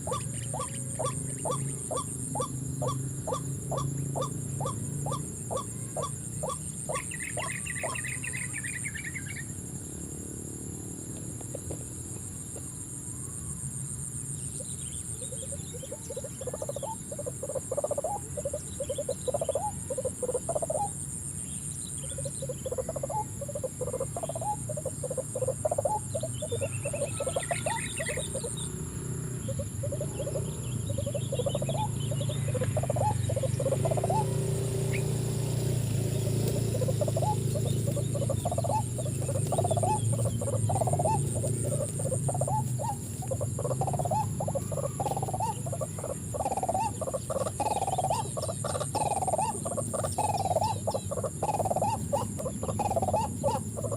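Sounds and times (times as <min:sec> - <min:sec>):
rapid animal calls: 0:00.0 - 0:09.5, 0:14.2 - 0:53.9
insect chorus trilling: 0:00.0 - 0:53.9.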